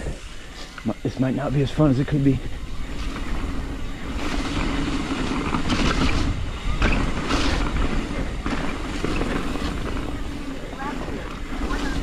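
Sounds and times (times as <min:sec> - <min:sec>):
tyre and wind rumble: 0:00.0 - 0:12.0
bike rattling over bumps: 0:01.6 - 0:12.0.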